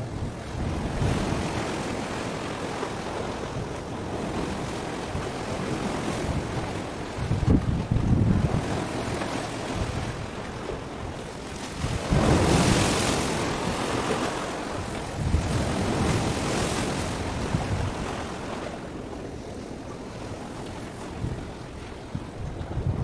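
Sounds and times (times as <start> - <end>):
waves washing on shore: 0.0 - 23.0
wind rumbling on microphone: 0.0 - 23.0.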